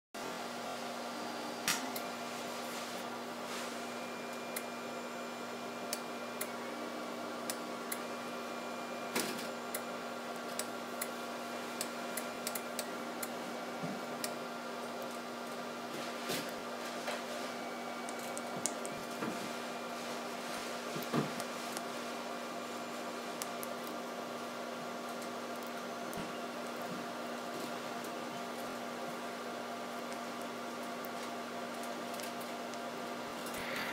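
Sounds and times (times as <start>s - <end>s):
electrical hum: 0.2s - 33.9s.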